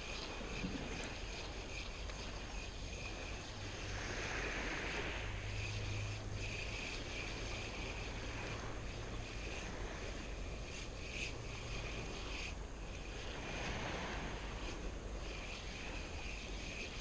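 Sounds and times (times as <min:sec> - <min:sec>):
high insect buzz: 0:00.0 - 0:17.0
surf: 0:00.0 - 0:17.0
wind: 0:00.0 - 0:17.0.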